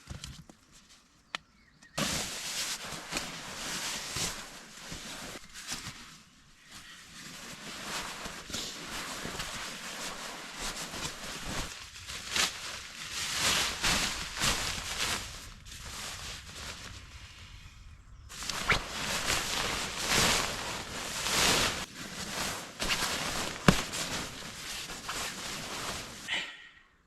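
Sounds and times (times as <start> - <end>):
camping gear rustling and clicking: 1.9 - 17.1, 18.3 - 26.3.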